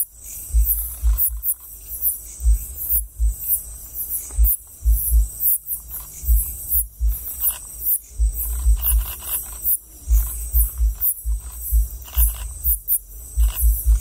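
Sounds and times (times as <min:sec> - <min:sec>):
night insects chirping: 0:00.0 - 0:14.0
low thumps on microphone: 0:00.5 - 0:01.6, 0:02.4 - 0:14.0.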